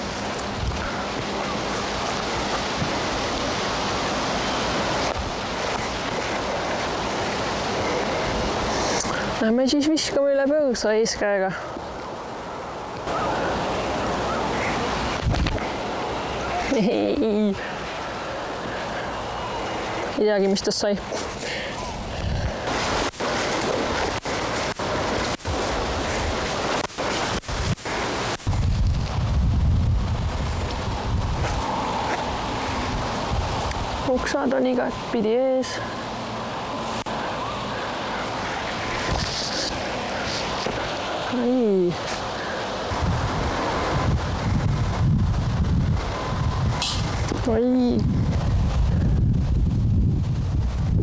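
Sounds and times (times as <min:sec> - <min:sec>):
microphone static hiss: 0:00.0 - 0:51.0
steady rushing noise: 0:00.0 - 0:51.0.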